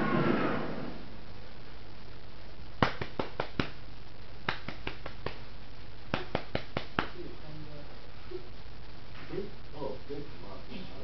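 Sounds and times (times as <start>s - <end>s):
noisy background sound: 0.0s - 11.0s.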